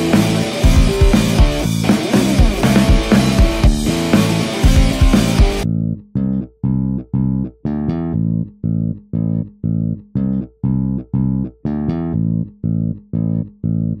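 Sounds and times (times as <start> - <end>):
plucked string riff: 0.0 - 14.0.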